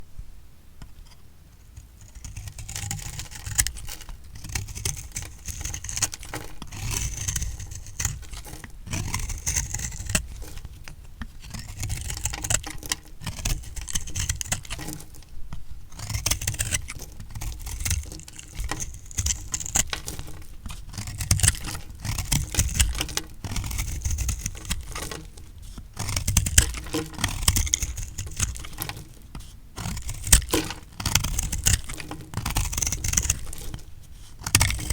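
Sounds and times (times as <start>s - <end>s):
knife cutting through soap: 2.0s - 34.9s.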